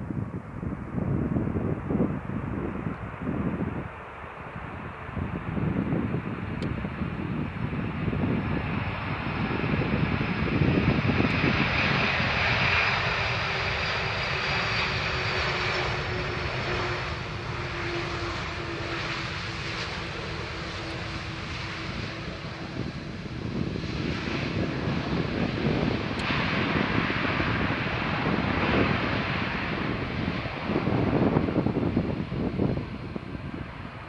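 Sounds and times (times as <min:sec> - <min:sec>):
jet engines rushing: 0:00.0 - 0:34.0.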